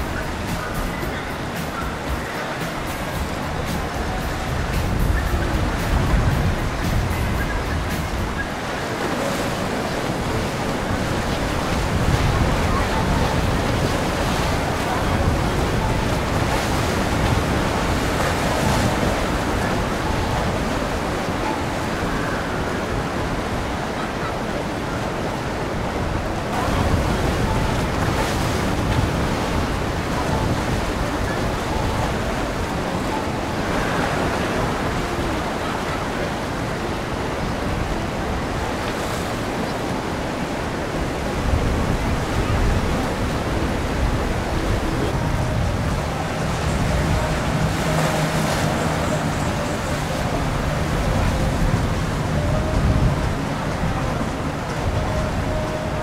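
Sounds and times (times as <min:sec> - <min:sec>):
water rushing along boat: 0:00.0 - 0:56.0
wind buffeting microphone: 0:00.0 - 0:56.0.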